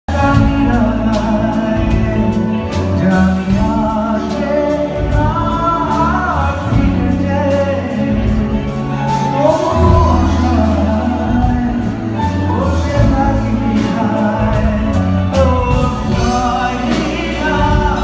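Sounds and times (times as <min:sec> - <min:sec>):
live band music: 0:00.1 - 0:18.0
person singing: 0:00.1 - 0:18.0.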